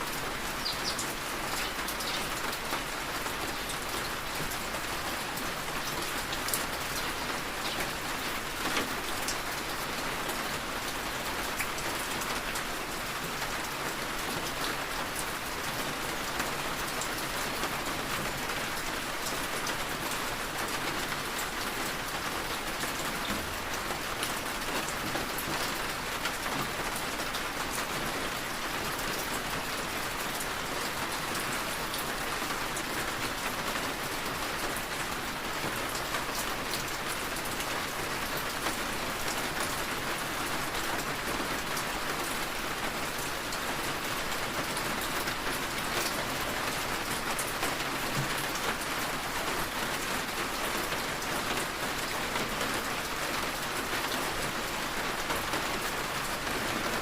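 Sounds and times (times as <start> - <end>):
rain tapping on a window: 0.0 - 57.0.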